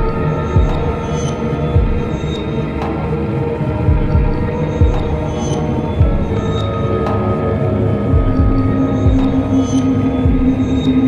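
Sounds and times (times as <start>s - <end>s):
dark ambient music drones: 0.0s - 11.0s.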